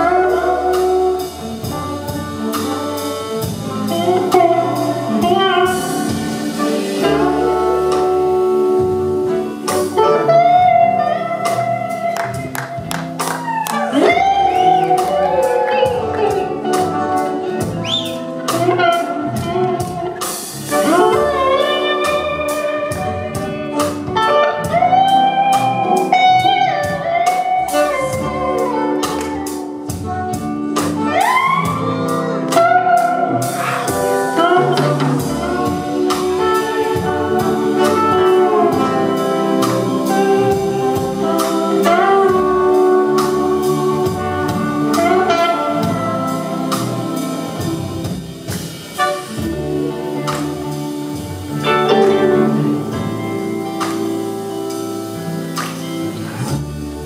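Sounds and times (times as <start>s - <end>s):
live rock band playing: 0.0s - 57.0s
slide guitar solo: 0.0s - 57.0s.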